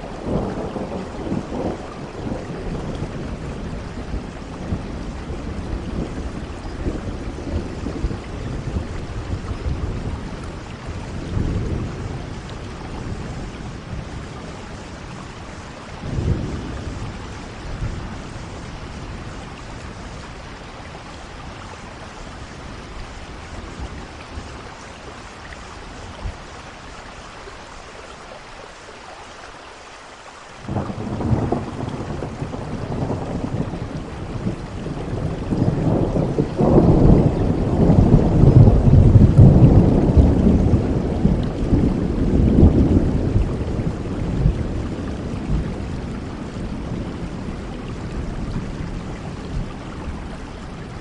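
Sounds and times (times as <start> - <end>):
rolling thunder: 0.0 - 25.3, 30.7 - 51.0
steady rain: 0.0 - 51.0.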